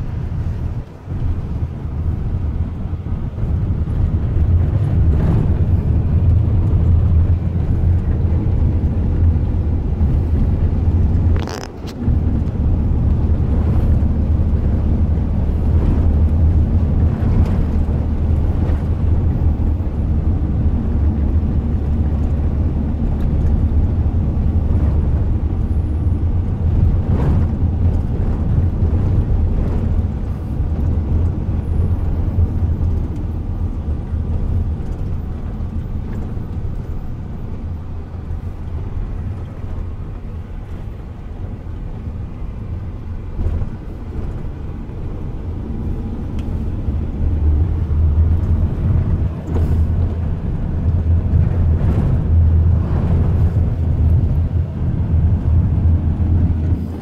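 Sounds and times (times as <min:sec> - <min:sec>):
van driving on gravel: 0:00.0 - 0:57.0.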